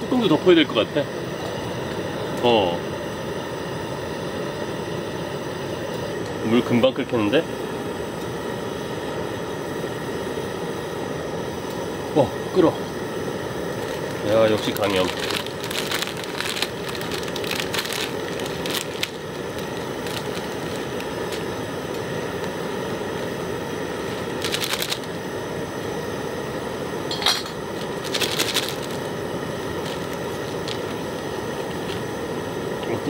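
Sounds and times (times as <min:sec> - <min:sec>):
camping burner hissing: 0:00.0 - 0:33.0
water boiling in pot: 0:00.0 - 0:33.0.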